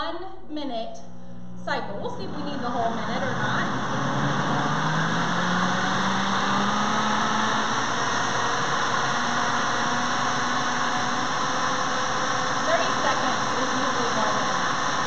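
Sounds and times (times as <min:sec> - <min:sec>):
blender motor running: 0:02.0 - 0:15.0.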